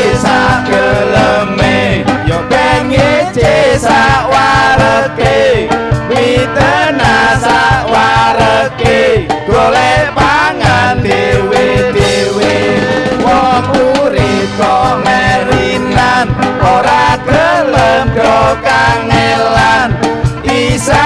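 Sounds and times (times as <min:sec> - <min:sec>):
drum kit: 0:00.0 - 0:21.0
electric guitar: 0:00.0 - 0:21.0
man singing into a microphone: 0:00.0 - 0:21.0.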